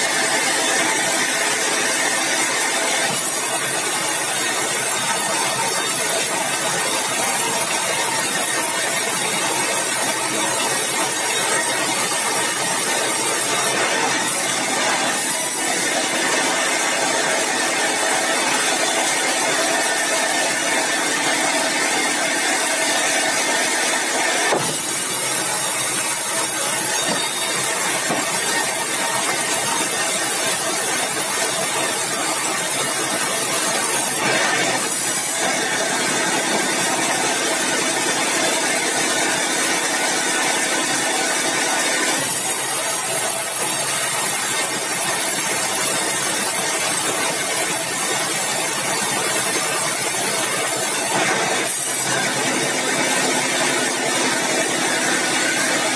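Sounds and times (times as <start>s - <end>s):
band saw sawing timber: 0.0s - 38.9s, 42.1s - 55.9s.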